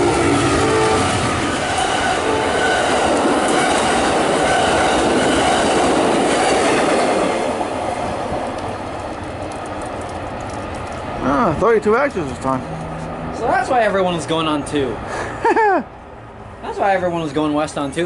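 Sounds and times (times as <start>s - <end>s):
train wheels on rails: 0.0s - 14.6s
train rushing past: 0.0s - 15.1s.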